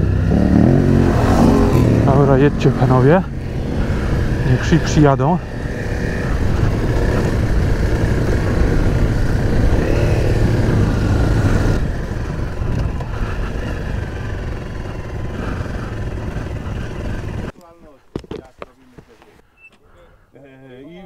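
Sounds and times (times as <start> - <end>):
motorcycle engine running: 0.0 - 17.5.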